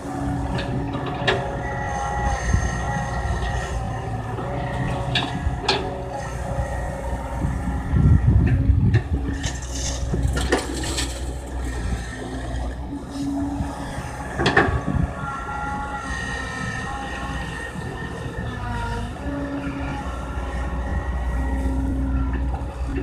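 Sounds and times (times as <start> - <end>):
diesel engine rumbling: 0.0 - 23.0
hydraulic whine: 0.0 - 23.0.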